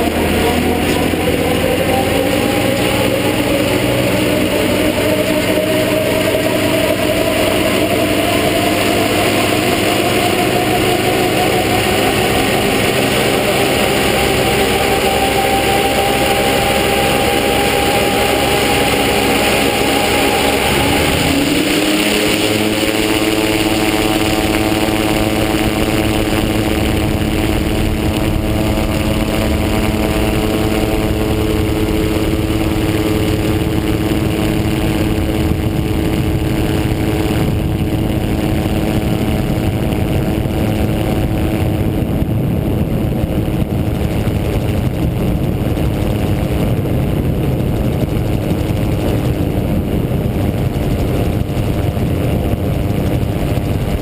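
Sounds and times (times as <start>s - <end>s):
gyrocopter engine and propeller: 0.0s - 54.0s.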